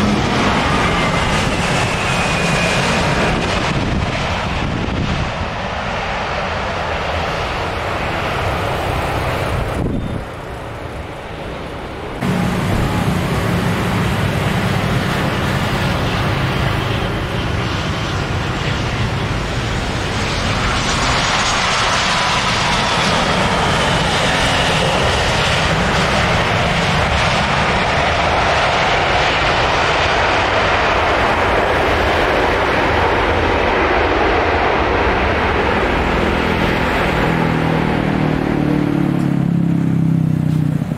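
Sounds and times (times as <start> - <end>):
jet engines rushing: 0.0 - 40.9.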